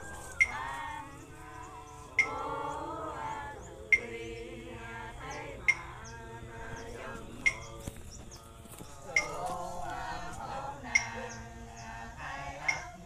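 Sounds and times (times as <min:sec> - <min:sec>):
group chanting long sung notes: 0:00.0 - 0:13.0.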